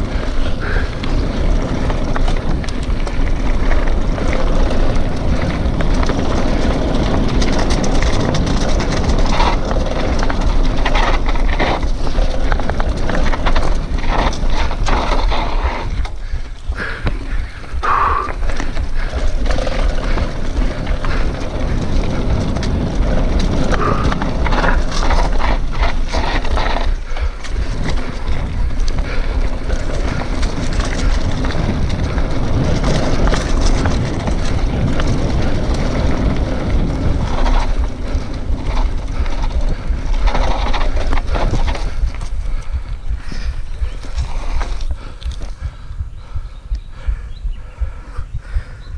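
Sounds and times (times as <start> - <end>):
tyres rolling over stones: 0.0 - 45.8
bike rattling and knocking: 0.0 - 48.9
wind rumbling on microphone: 0.0 - 48.9.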